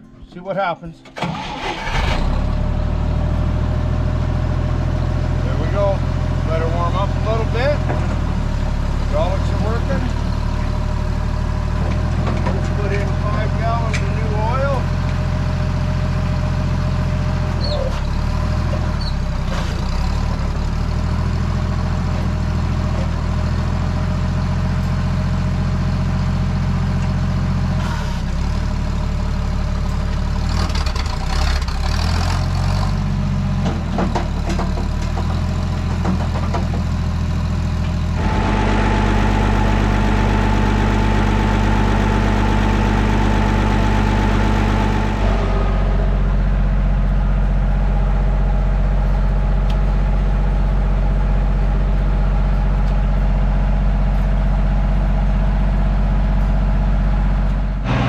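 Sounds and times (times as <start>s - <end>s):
loader engine idling: 0.0s - 58.0s.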